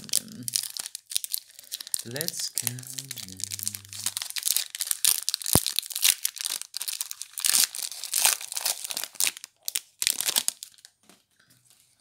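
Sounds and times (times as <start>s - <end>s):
foil wrapper crinkling and tearing: 0.0s - 11.3s.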